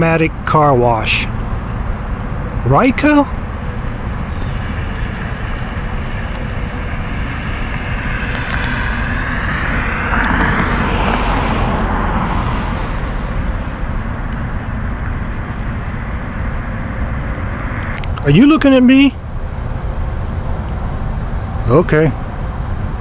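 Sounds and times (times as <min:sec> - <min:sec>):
low rumble of traffic: 0:00.0 - 0:23.0
vehicle passing: 0:00.0 - 0:23.0.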